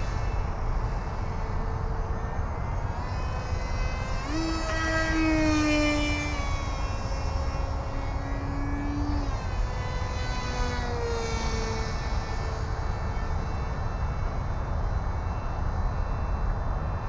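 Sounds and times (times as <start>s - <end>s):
electric motor and propeller whining: 0.0s - 17.0s.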